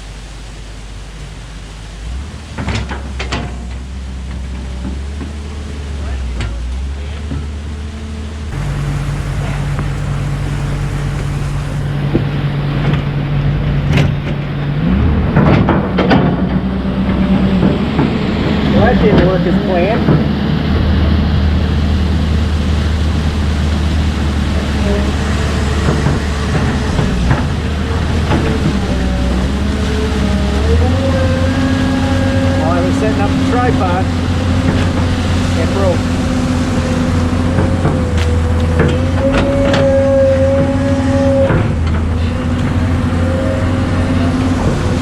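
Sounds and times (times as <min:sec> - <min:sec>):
excavator diesel engine: 0:00.0 - 0:45.0.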